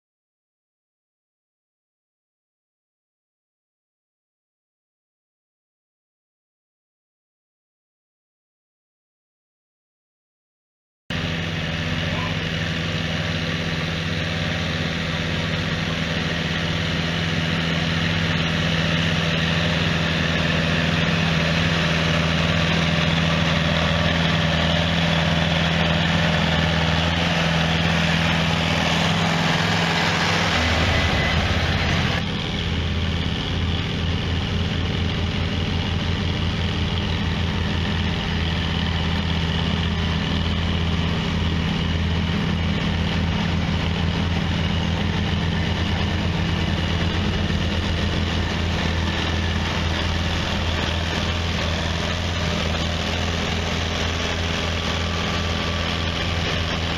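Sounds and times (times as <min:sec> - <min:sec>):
engine with quick even beat: 0:11.1 - 0:56.9
tractor engine running under load: 0:11.1 - 0:56.9.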